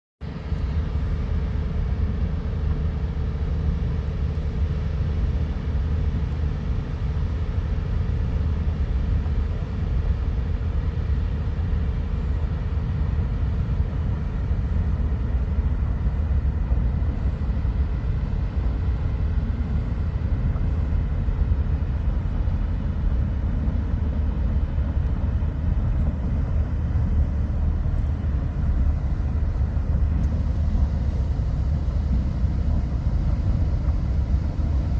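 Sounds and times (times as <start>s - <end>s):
ship engine droning: 0.2s - 34.9s.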